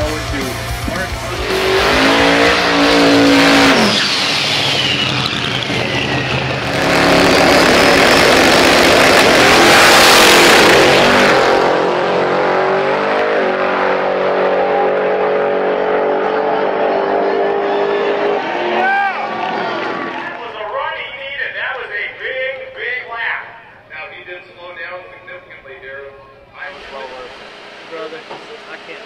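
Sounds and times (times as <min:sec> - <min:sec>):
drag car engine roaring: 0:00.0 - 0:29.0.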